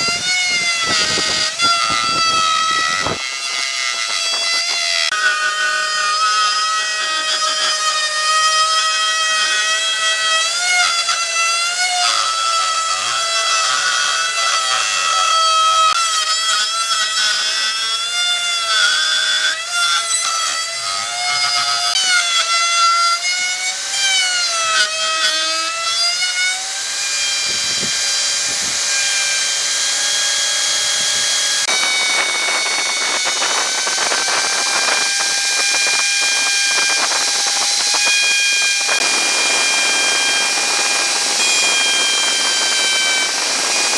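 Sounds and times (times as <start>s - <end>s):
power tool whining: 0.0s - 43.9s
rough cutting noise: 0.0s - 43.9s.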